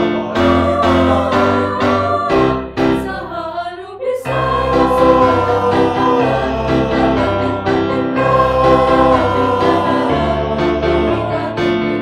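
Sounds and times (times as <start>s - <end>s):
choir-like singing over pulsing music: 0.0s - 12.0s.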